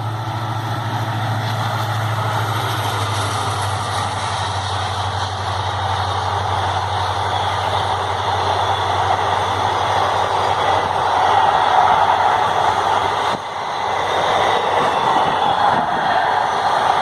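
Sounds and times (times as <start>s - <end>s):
train rumbling on track: 0.0s - 17.0s
wheel and rail noise: 0.0s - 17.0s.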